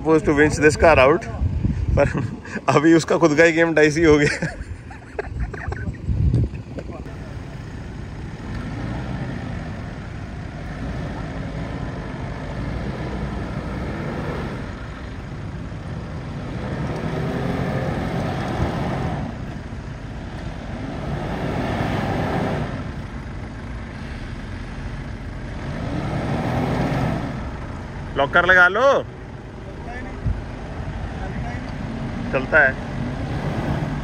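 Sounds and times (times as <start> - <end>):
diesel engine revving: 6.1 - 34.0.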